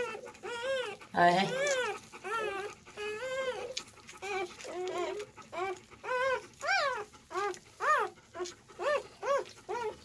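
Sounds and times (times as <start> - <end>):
puppy whining: 0.0 - 10.0.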